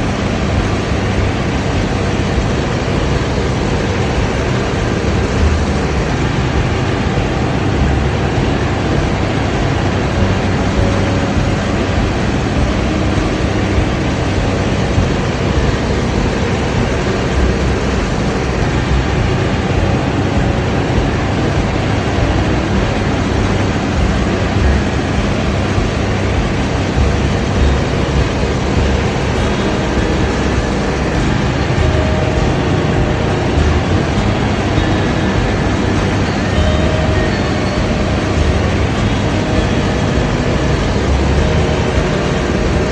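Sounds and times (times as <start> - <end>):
combine harvester drone: 0.0 - 42.9
deep engine rumble: 0.0 - 42.9.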